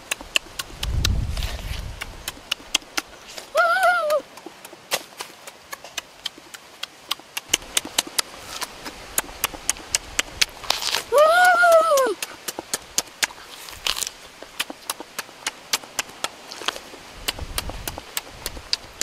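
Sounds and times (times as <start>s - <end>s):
crunchy skin being chewed: 0.0s - 3.6s, 4.2s - 19.0s.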